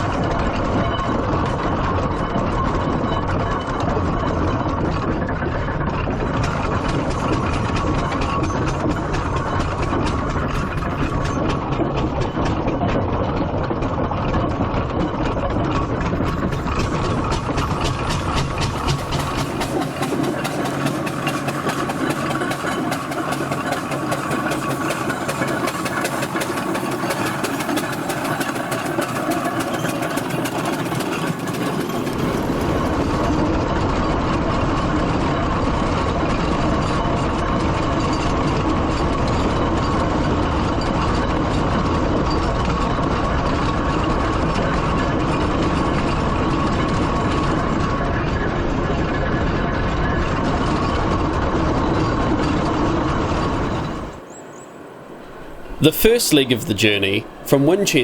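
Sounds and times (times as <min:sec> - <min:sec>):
steam traction engine running: 0:00.0 - 0:58.0.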